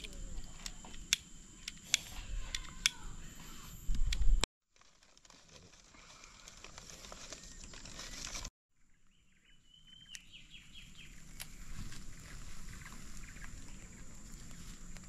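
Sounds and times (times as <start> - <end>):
faint outdoor ambience: 0.0 - 4.4, 6.0 - 15.0.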